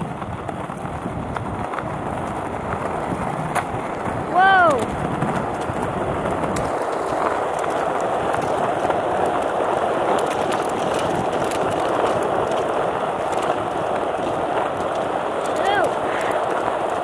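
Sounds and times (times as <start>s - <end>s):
skateboard wheel clicks over cracks: 0.0s - 17.0s
skateboard wheels rolling on asphalt: 0.0s - 17.0s.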